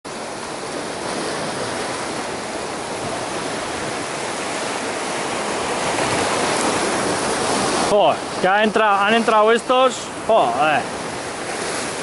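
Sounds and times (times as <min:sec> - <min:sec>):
surf washing over rocks: 0:00.1 - 0:12.0.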